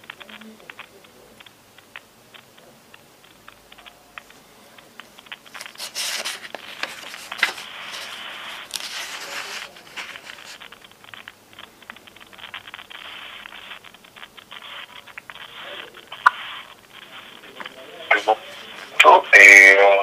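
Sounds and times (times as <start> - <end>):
scraping and crackling noise: 0.0 - 19.8.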